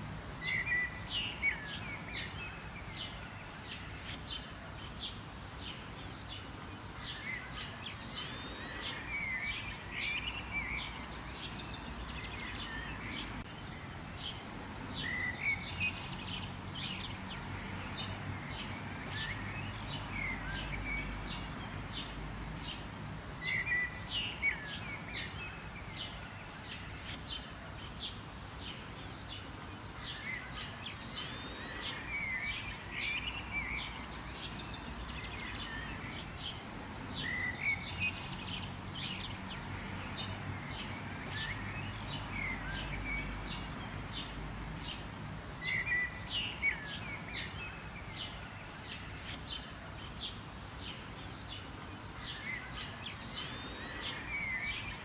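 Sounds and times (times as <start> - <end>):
low background noise: 0.0 - 55.0
birds chirping and calling: 0.4 - 55.0.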